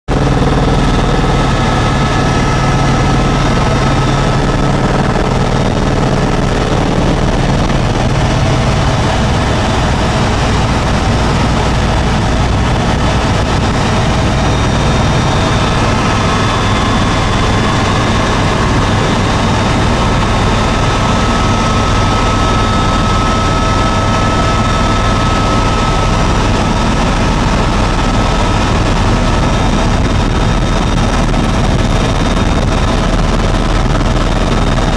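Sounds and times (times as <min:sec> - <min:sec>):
helicopter rotor beat: 0:00.1 - 0:34.9
turbine whine: 0:00.1 - 0:34.9.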